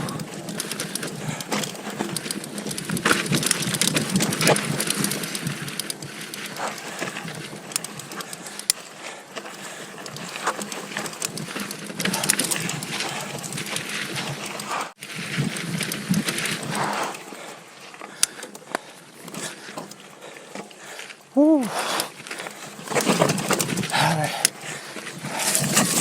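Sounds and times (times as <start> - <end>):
bike rattling and knocking: 0.0 - 26.0
tyres grinding over dirt and rocks: 0.0 - 26.0.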